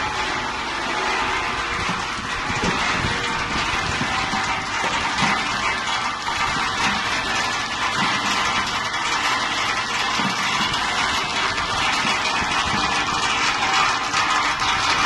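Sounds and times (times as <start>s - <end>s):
farm machinery engine running: 0.0s - 15.0s.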